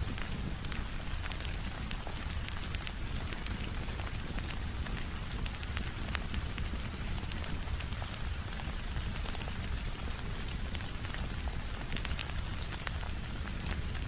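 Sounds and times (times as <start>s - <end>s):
rain falling on a window: 0.0s - 14.0s
wood fire crackling: 0.0s - 14.0s.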